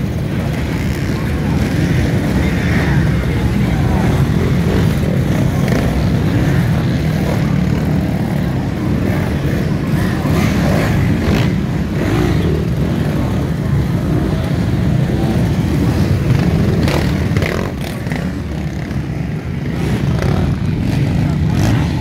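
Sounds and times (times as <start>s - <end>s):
off-road motorcycles revving past: 0.0s - 22.0s.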